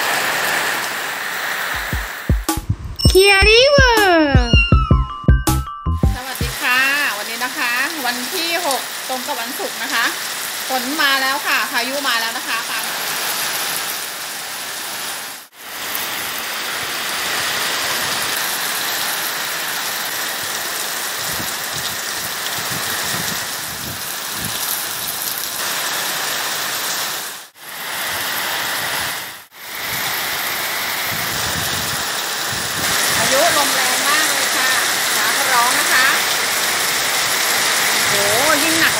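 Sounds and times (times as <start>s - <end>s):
water streaming off roof edge: 0.0s - 2.3s, 6.2s - 38.9s
heavy rain pouring: 0.0s - 38.9s.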